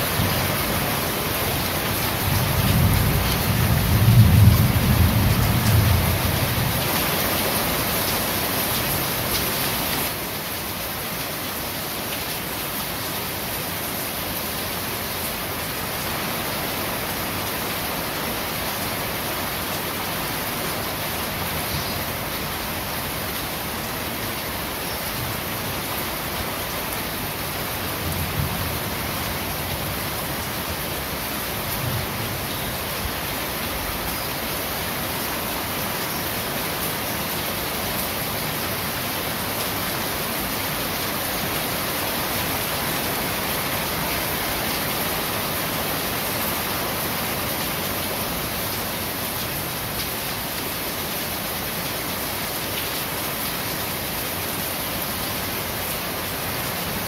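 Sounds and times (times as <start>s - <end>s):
heavy rain on a corrugated roof: 0.0s - 57.0s.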